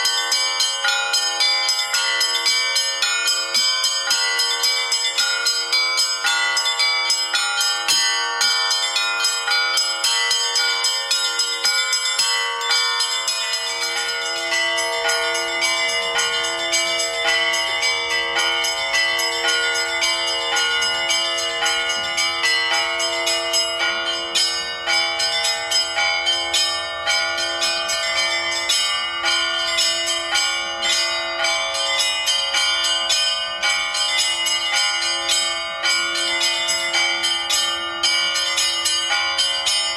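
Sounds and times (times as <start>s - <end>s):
bells ringing: 0.0s - 39.9s.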